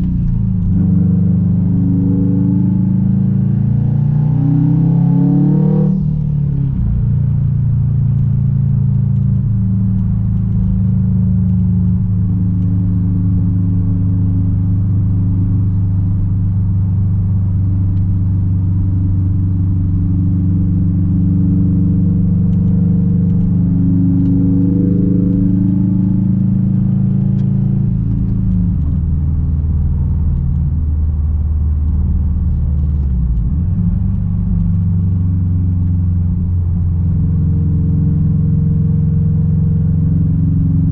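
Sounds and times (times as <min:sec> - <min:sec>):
car exhaust droning: 0:00.0 - 0:40.9.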